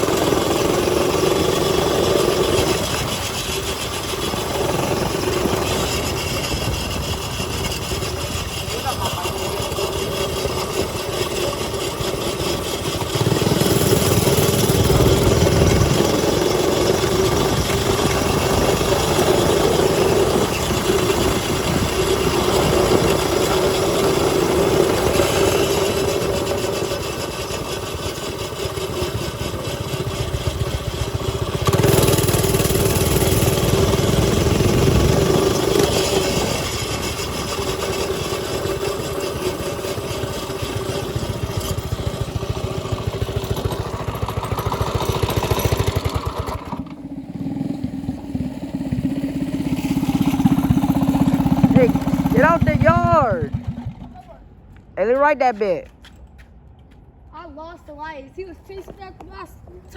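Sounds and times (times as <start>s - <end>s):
mini bike engine running: 0.0s - 55.9s.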